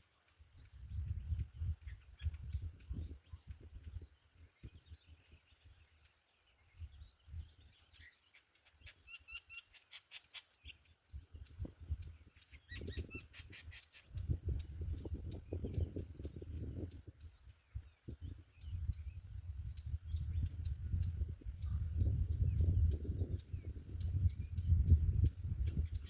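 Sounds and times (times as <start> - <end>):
birds chirping: 0.5 - 26.0.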